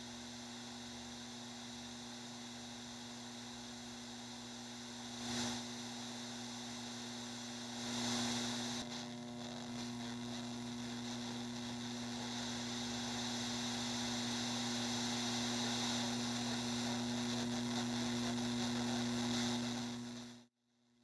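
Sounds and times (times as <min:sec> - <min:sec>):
electrical mains hum: 0:00.0 - 0:20.5
static hiss: 0:00.0 - 0:20.5.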